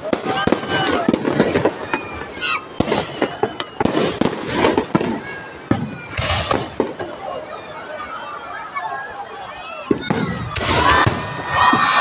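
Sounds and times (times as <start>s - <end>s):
fireworks bangs and crackling: 0.0s - 8.1s, 9.8s - 12.0s.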